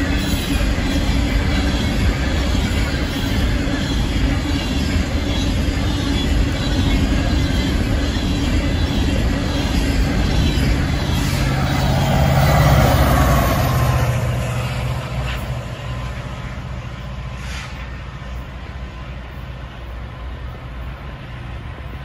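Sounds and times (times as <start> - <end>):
diesel locomotive engine drone: 0.0 - 22.0
freight cars rolling on rails: 0.0 - 22.0.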